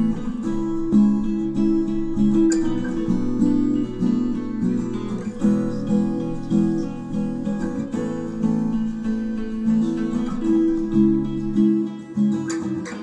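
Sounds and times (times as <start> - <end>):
plucked acoustic guitar tune: 0.0 - 13.0.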